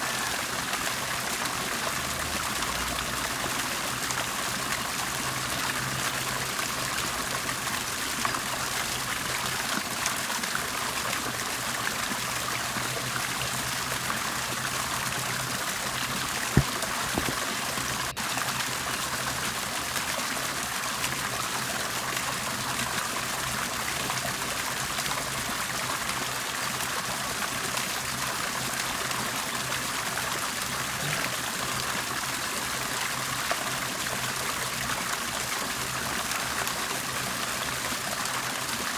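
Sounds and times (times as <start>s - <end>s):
water bubbling and trickling: 0.0s - 38.9s.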